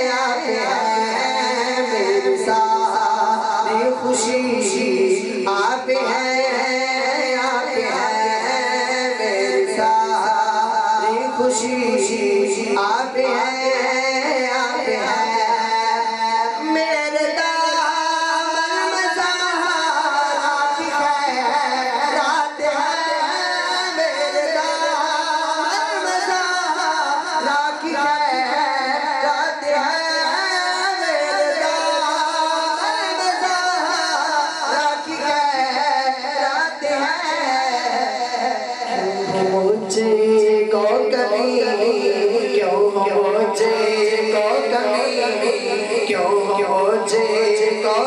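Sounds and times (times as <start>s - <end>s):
man singing over a pa system: 0.0s - 48.0s.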